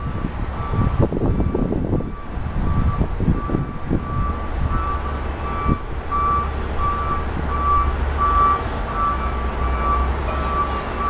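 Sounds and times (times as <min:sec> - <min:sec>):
low steady rumble: 0:00.0 - 0:11.0
reversing alarm beeping: 0:00.0 - 0:11.0.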